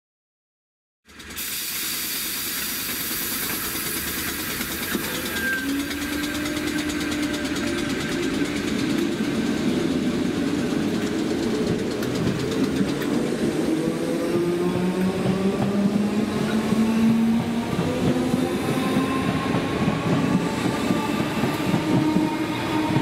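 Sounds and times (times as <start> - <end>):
train rushing noise: 1.1 - 23.0
traction motor whine rising: 3.4 - 23.0.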